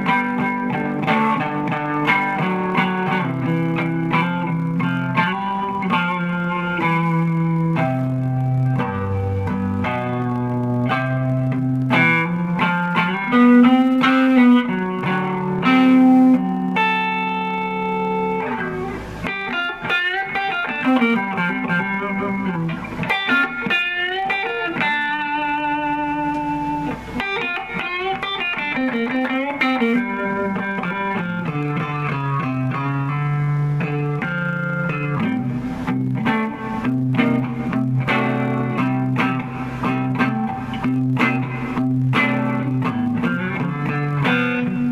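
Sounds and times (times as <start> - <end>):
electric guitar through amplifier: 0.0 - 44.9.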